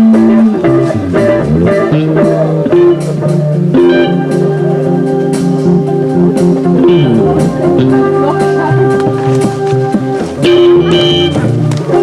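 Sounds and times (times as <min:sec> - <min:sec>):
amplified guitar playing: 0:00.0 - 0:12.0.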